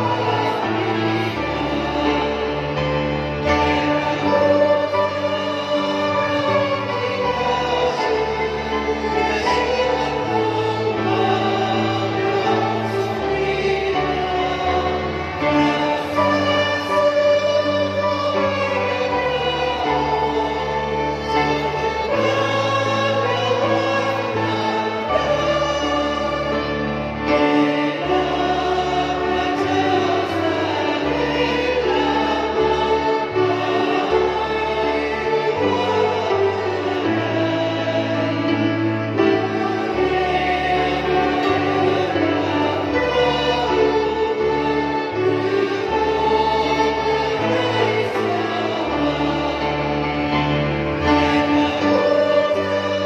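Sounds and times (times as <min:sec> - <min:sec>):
grand piano chords: 0:00.0 - 0:53.0
violins playing a slow hymn: 0:00.0 - 0:53.0.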